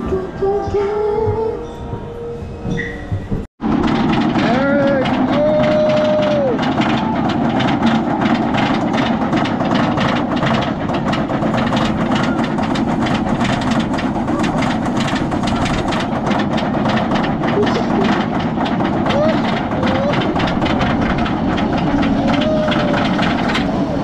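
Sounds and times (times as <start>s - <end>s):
mechanical rumble: 0.0s - 24.0s
lift chain clacking: 0.1s - 24.0s.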